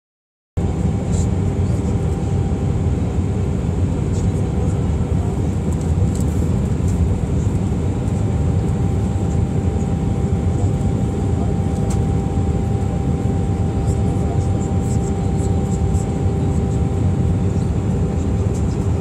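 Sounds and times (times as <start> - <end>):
jet engine and airflow rumble: 0.6 - 19.0.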